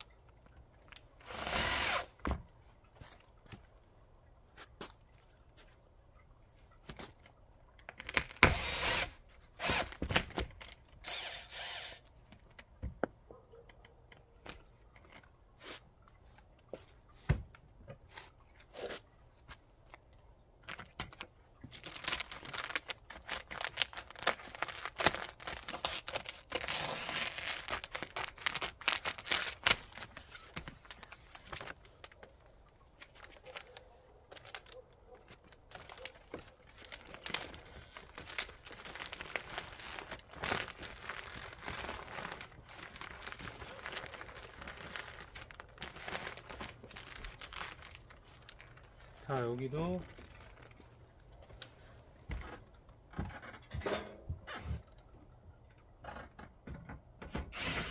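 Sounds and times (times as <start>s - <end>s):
crinkling: 0.0s - 11.2s, 12.0s - 53.0s.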